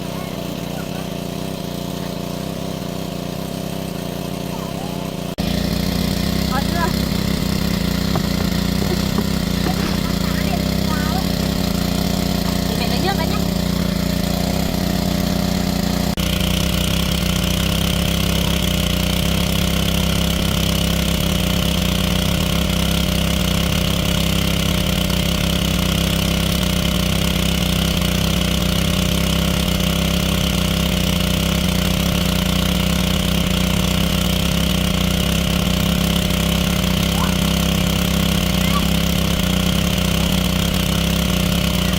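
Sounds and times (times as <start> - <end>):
small engine humming: 0.0 - 41.9.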